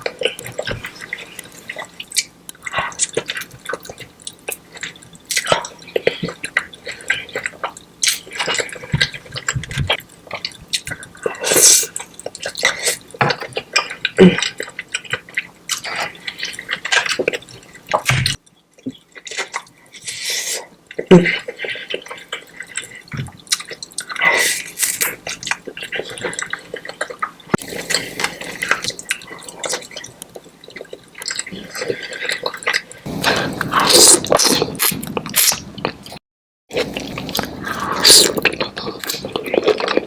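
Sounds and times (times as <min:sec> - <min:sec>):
wet smacking and chewing: 0:00.0 - 0:20.3, 0:20.9 - 0:36.2, 0:36.8 - 0:40.0.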